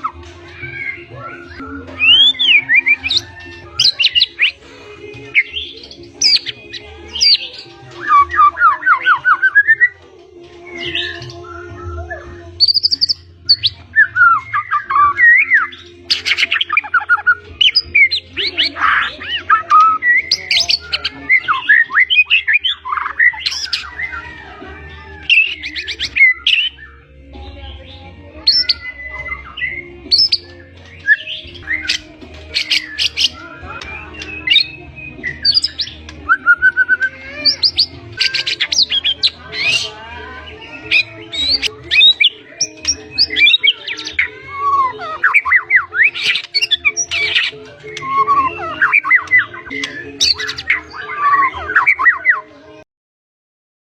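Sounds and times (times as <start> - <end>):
songbird whistling and trilling: 0.0 - 10.0, 10.6 - 52.5.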